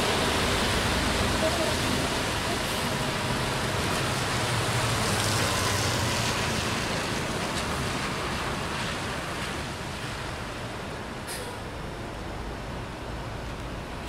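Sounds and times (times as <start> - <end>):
rain: 0.0 - 14.0
tyres hissing on wet road: 0.0 - 14.0.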